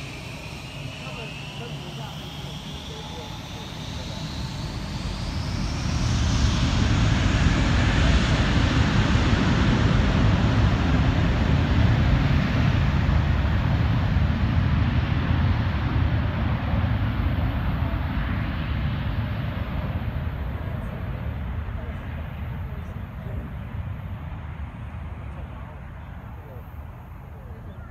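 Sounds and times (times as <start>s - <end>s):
airliner engines roaring on takeoff: 0.0s - 27.9s.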